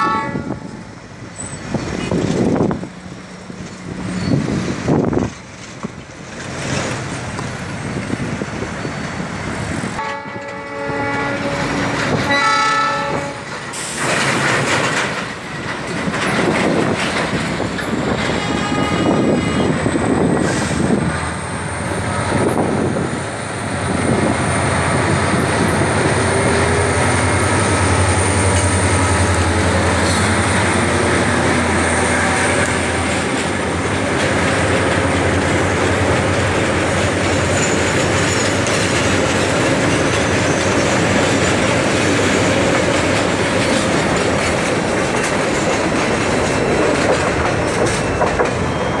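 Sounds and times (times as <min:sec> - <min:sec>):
diesel locomotive engine drone: 0:00.0 - 0:49.0
train wheels on rails: 0:00.0 - 0:49.0.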